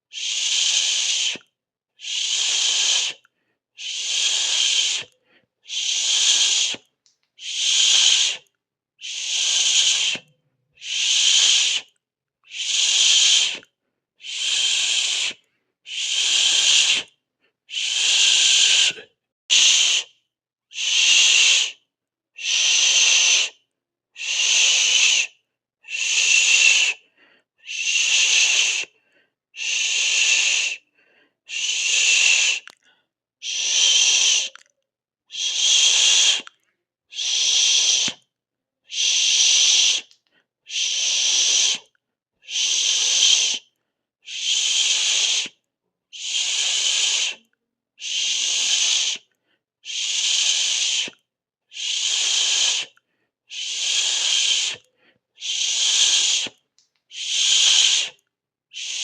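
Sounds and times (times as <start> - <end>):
person hissing: 0.1 - 11.9, 12.5 - 13.6, 14.2 - 17.1, 17.7 - 20.1, 20.7 - 21.8, 22.4 - 23.6, 24.2 - 29.0, 29.6 - 32.8, 33.4 - 34.6, 35.3 - 38.2, 38.9 - 43.7, 44.3 - 45.6, 46.2 - 59.0.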